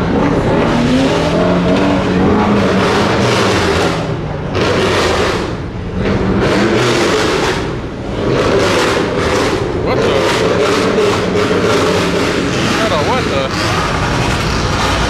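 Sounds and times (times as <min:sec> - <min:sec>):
car engines revving: 0:00.0 - 0:15.0
exhaust noise surges: 0:00.0 - 0:15.0.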